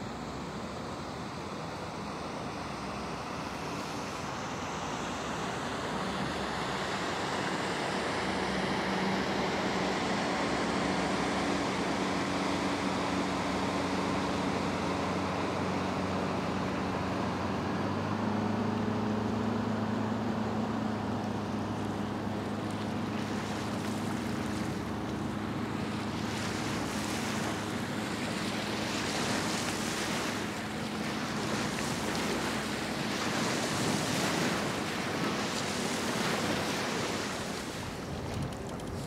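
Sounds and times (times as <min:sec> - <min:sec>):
low engine hum: 0:00.0 - 0:39.0
rushing water: 0:00.0 - 0:39.0
wind: 0:00.0 - 0:39.0.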